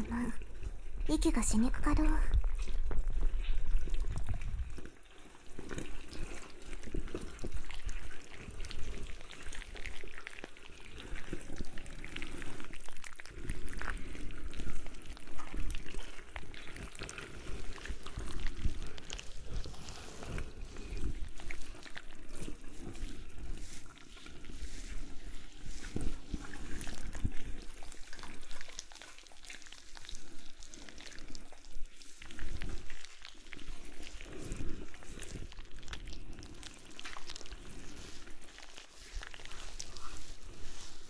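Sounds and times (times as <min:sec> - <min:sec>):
wet squelching tentacles: 0:00.0 - 0:41.0.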